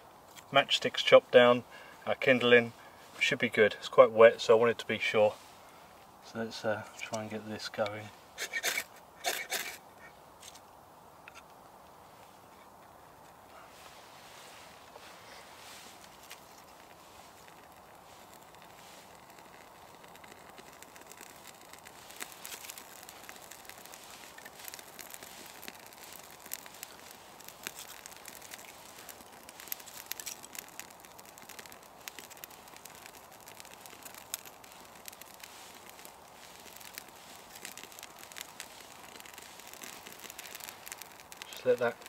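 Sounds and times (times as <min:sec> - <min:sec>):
small fire crackling and popping: 0:00.0 - 0:42.0.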